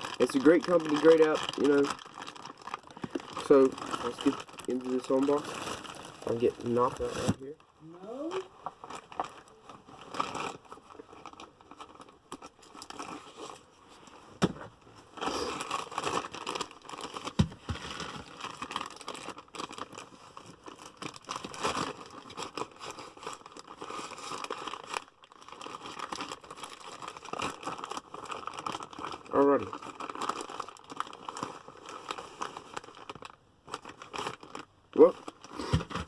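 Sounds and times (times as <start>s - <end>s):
packaging crinkling and tearing: 0.0s - 7.6s, 8.2s - 13.7s, 15.1s - 36.0s.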